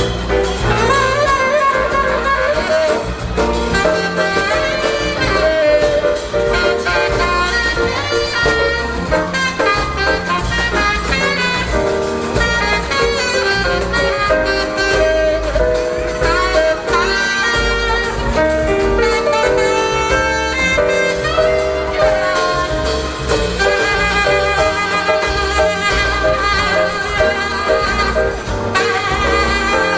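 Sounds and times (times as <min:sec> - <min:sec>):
bass: 0:00.0 - 0:29.9
drums: 0:00.0 - 0:29.9
piano: 0:00.0 - 0:29.9
saxophone melody: 0:00.0 - 0:29.9.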